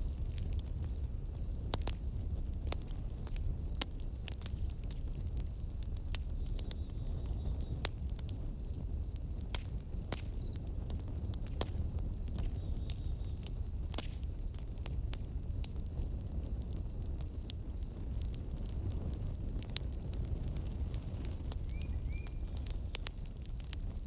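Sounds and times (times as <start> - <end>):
fire crackles and pops: 0.0 - 24.0
fire flames rumbling: 0.0 - 24.0.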